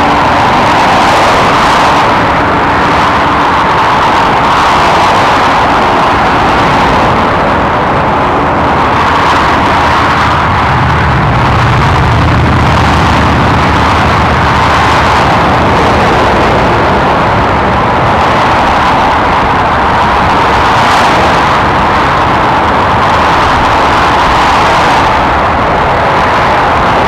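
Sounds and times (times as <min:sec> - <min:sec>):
lorry engine hum: 0:00.0 - 0:27.0
motorway traffic tyre noise: 0:00.0 - 0:27.0.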